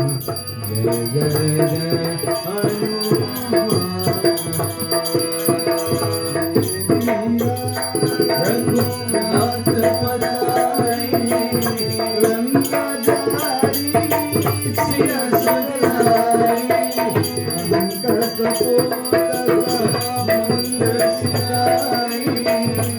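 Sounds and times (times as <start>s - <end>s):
drumming: 0.0s - 22.9s
rattling hand percussion: 0.0s - 22.9s.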